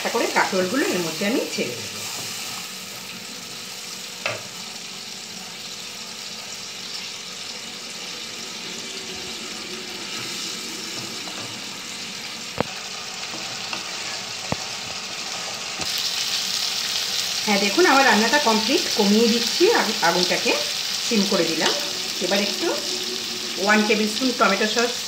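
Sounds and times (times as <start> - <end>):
masala sizzling in a pan: 0.0 - 25.0.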